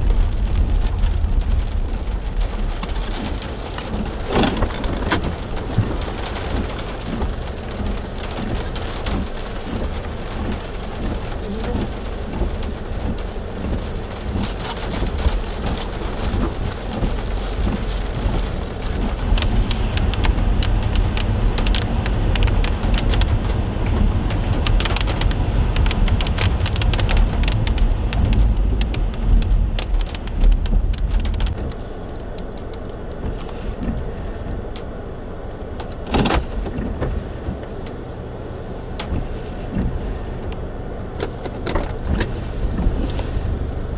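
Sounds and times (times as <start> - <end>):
deep low rumble: 0.0 - 43.9
rain pattering on a car: 0.0 - 43.9.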